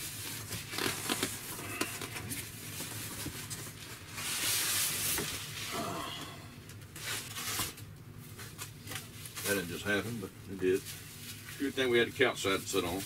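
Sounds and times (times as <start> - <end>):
cardboard and foam packing rustling: 0.0 - 5.8, 6.8 - 13.0.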